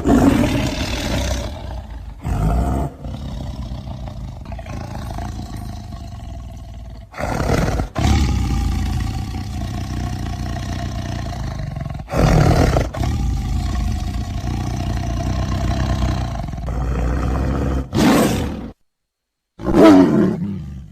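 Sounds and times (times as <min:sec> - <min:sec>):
tiger growling: 0:00.0 - 0:18.8, 0:19.6 - 0:20.9
tiger roaring: 0:00.0 - 0:18.8, 0:19.6 - 0:20.9.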